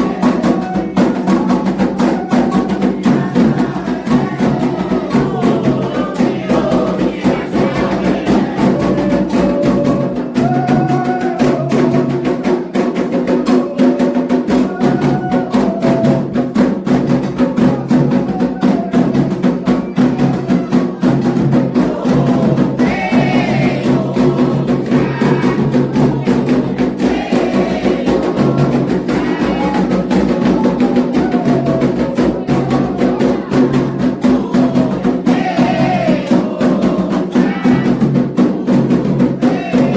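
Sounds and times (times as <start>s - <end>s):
hand drums playing fast rhythm: 0.0s - 39.9s
voices singing: 0.0s - 39.9s.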